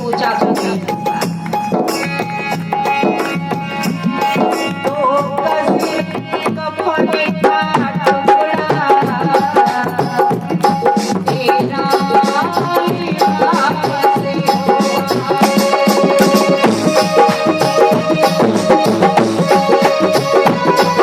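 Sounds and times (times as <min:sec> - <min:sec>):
tabla playing steady rhythm: 0:00.0 - 0:21.0.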